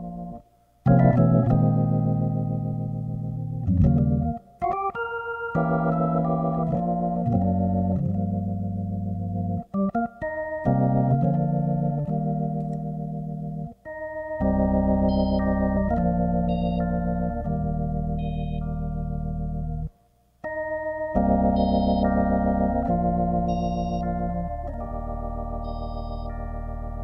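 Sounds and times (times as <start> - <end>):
organ chords: 0.0 - 27.0.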